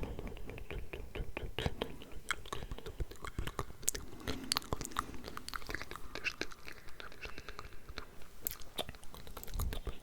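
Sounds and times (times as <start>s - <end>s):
wet mouth clicks and smacks: 0.0s - 10.0s.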